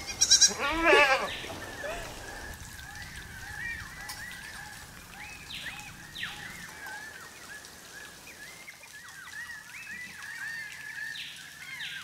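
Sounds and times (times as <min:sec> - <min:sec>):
hissy bird calls: 0:00.0 - 0:11.1
birds chirping: 0:00.0 - 0:12.0.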